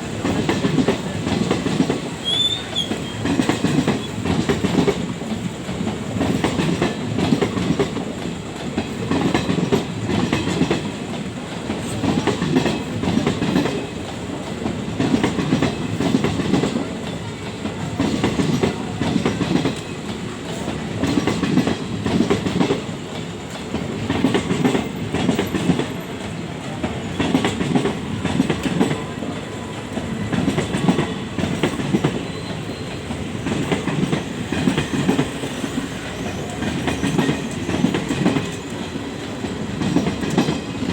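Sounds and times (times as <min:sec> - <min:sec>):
train rumble: 0:00.0 - 0:40.9
train wheels clacking: 0:00.0 - 0:40.9.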